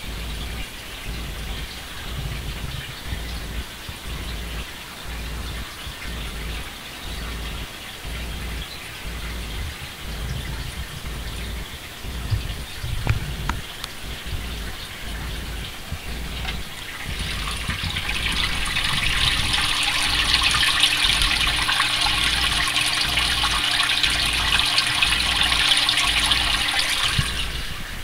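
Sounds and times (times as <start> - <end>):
aquarium water running hiss: 0.0 - 28.0
faint steady hum: 0.0 - 28.0.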